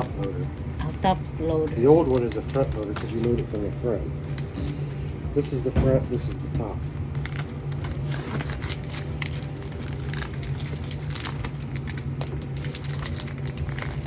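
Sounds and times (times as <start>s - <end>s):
plastic wrap crinkling: 0.0s - 14.0s
steady low hum: 0.0s - 14.0s.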